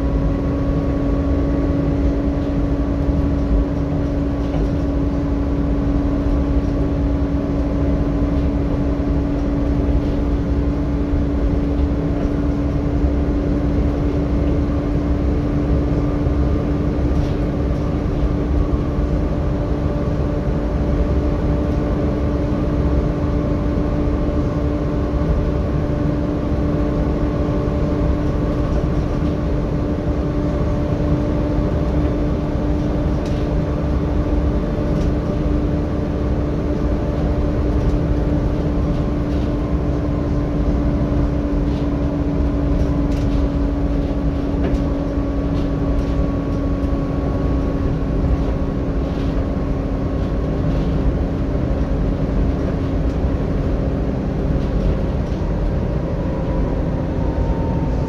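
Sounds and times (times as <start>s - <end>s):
bus engine and road noise: 0.0s - 58.0s
cooling fan whining: 0.0s - 58.0s.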